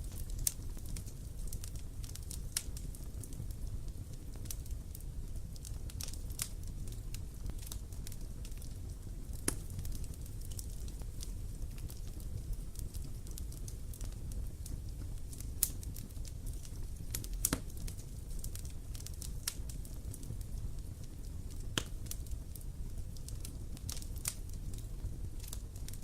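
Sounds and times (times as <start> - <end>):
campfire crackling and popping: 0.0 - 26.0
low rumble of burning fire: 0.0 - 26.0.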